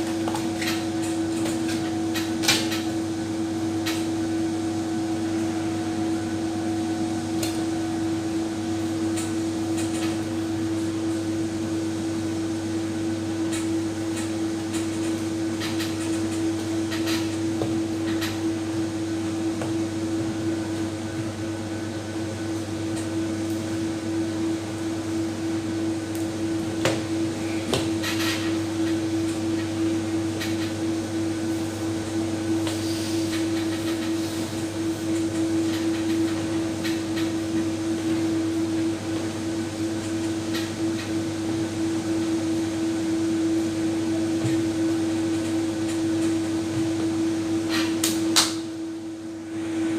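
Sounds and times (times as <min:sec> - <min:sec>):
steady mechanical hum: 0:00.0 - 0:49.9.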